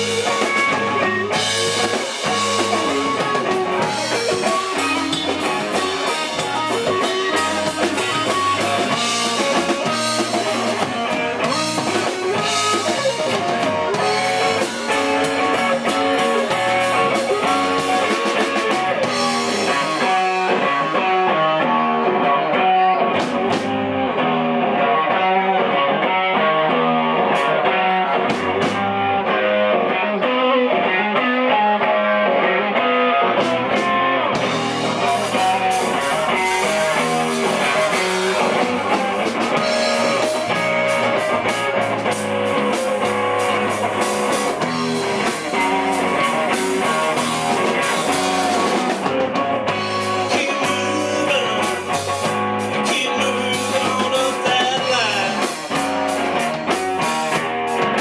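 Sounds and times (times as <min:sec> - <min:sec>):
electric guitar: 0:00.0 - 0:58.0
live rock band playing: 0:00.0 - 0:58.0.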